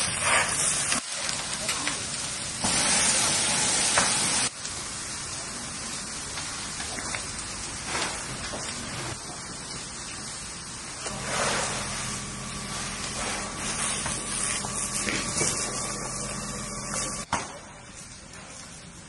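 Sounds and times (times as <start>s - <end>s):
fire hose spraying water: 0.0s - 19.0s
mechanical hum: 0.0s - 19.0s.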